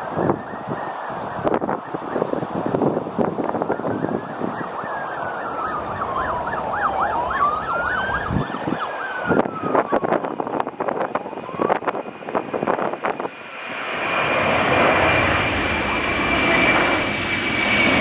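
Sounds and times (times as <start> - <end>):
emergency vehicle siren: 0.0 - 18.0
wind buffeting microphone: 0.0 - 18.0.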